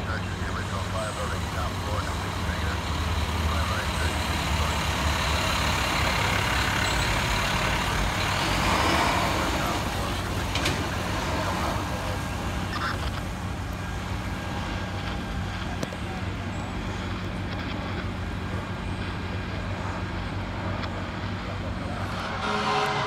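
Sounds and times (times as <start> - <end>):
truck diesel engine passing: 0.0 - 23.0
tyres passing: 0.0 - 23.0.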